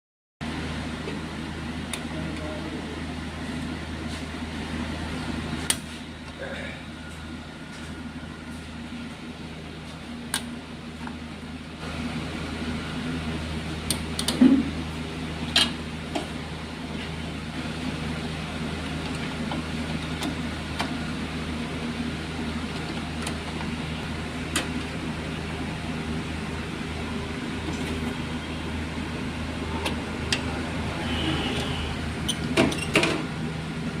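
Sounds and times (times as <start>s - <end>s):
steady low hum: 0.4s - 34.0s.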